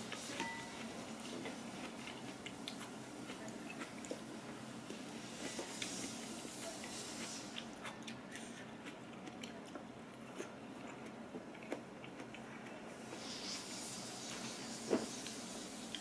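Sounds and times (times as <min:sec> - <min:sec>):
chewing noodles with mouth smacks: 0:00.1 - 0:16.0.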